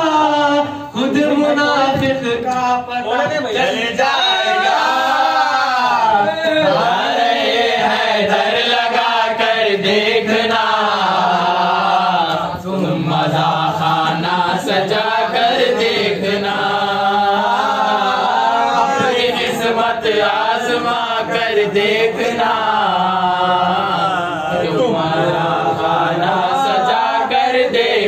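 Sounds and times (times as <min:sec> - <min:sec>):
men singing devotional chant: 0:00.0 - 0:28.0.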